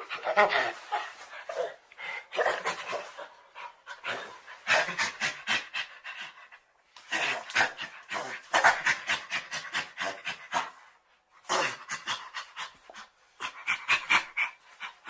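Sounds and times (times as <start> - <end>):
chimpanzee panting: 0.0 - 15.0.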